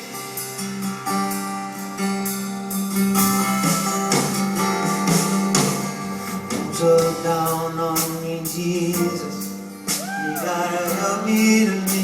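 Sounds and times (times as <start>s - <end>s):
soft rock band with guitar: 0.0s - 12.0s.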